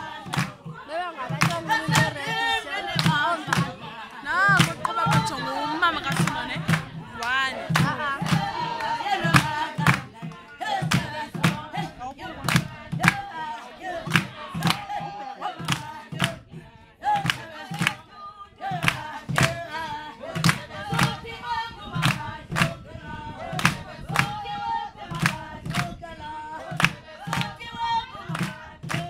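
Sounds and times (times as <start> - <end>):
hand claps: 0.0 - 16.5, 17.1 - 18.0, 18.7 - 22.8, 23.5 - 26.0, 26.7 - 29.0
group call-and-response singing: 0.0 - 29.0.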